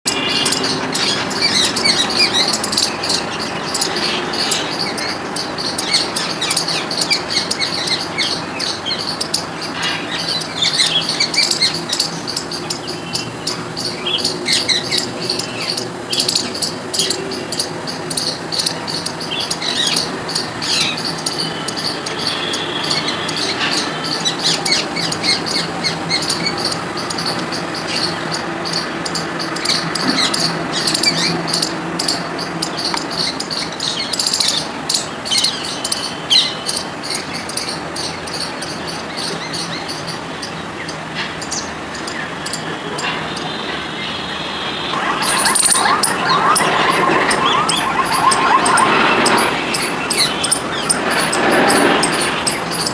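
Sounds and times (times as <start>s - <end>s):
squirrel chattering: 0.1s - 43.6s, 44.9s - 52.9s.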